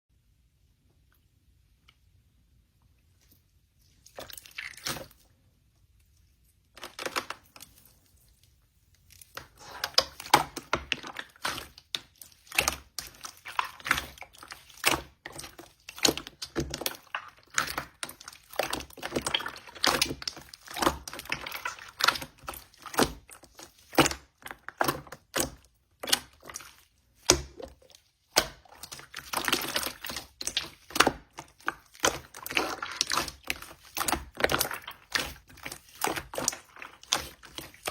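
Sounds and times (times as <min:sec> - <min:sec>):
slime squished by hand: 0:03.8 - 0:05.3, 0:06.7 - 0:37.9.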